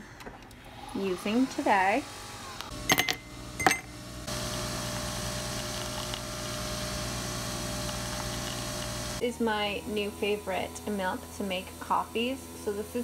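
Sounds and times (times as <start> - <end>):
coffee machine whirring hum: 0.4 - 13.0.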